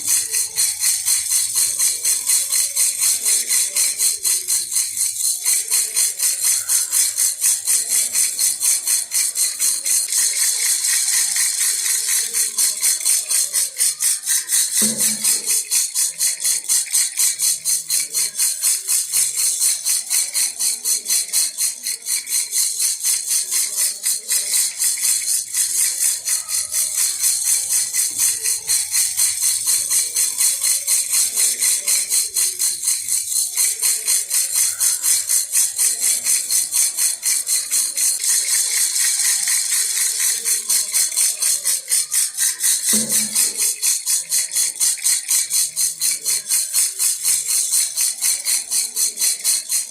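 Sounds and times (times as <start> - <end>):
baby rattle shaking: 0.0 - 49.9.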